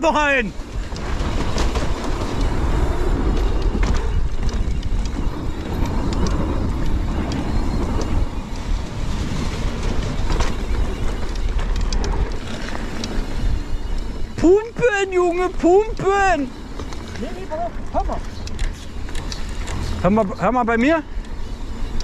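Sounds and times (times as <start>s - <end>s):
bike clicks and rattles: 0.0s - 22.0s
tyre and wind rumble: 0.0s - 22.0s.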